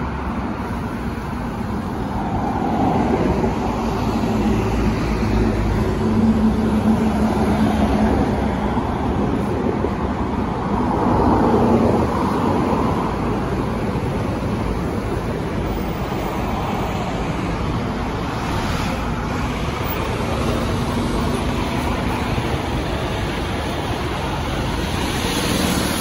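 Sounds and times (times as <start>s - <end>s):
bus diesel engine: 0.0s - 26.0s
passing road traffic: 0.0s - 26.0s.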